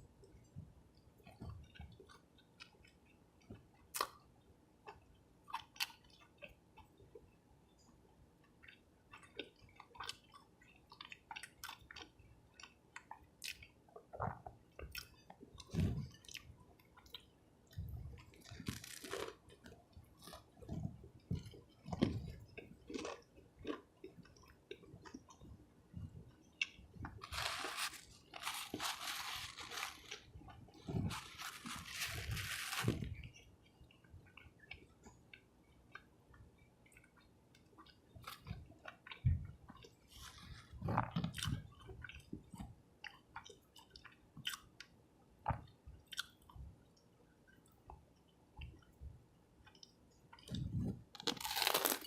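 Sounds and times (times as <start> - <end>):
chewing and crunching food: 0.1 - 52.0.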